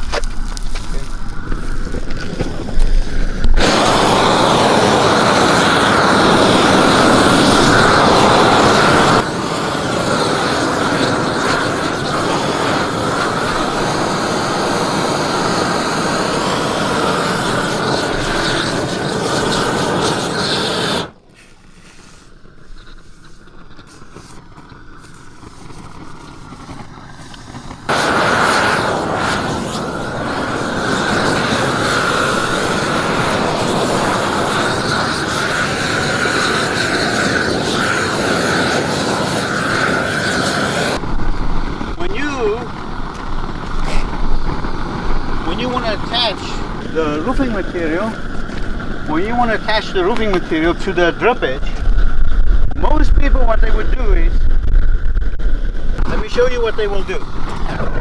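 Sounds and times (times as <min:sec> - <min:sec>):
roofing torch roaring: 0:00.0 - 0:58.0.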